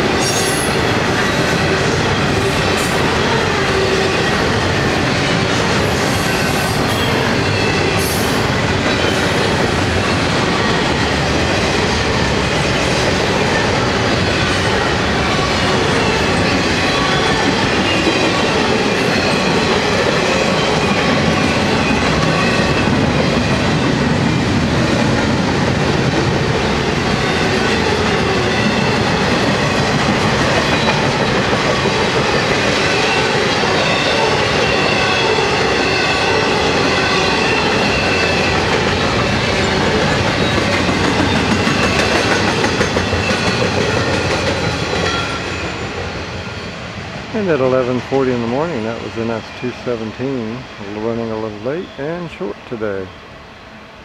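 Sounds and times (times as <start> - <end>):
train wheels rolling on rail: 0.0 - 54.0.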